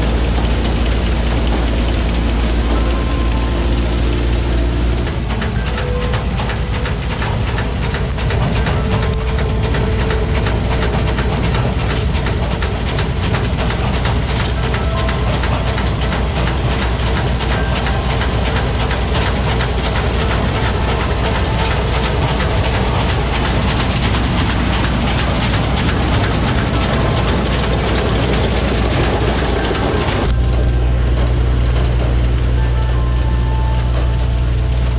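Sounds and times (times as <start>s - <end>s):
combine harvester engine drone: 0.0s - 34.9s
mechanical clatter: 0.0s - 34.9s.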